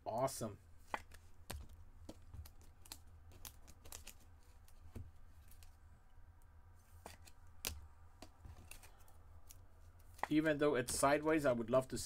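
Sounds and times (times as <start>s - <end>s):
trading cards and wrappers rustling: 0.2s - 5.9s, 6.8s - 11.1s.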